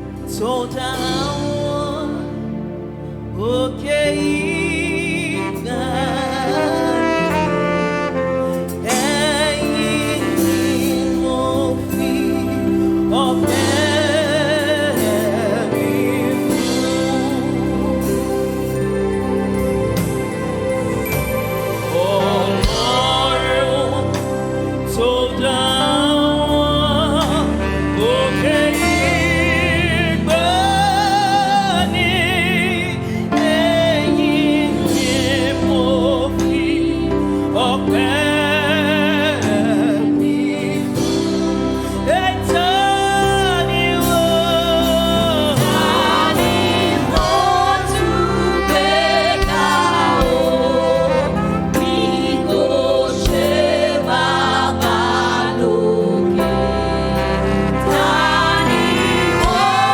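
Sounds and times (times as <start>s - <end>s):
keyboard and bass chords: 0.0s - 59.9s
singers holding long notes: 0.0s - 59.9s.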